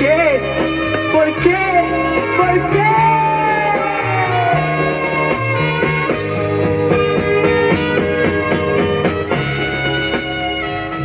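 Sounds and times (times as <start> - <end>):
instrumental pop ballad: 0.0 - 11.0.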